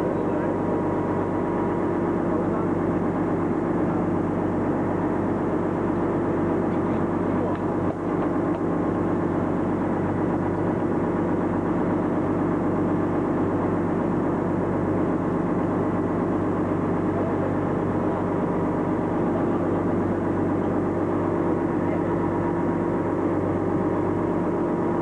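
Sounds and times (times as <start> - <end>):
boat engines humming: 0.0 - 25.0.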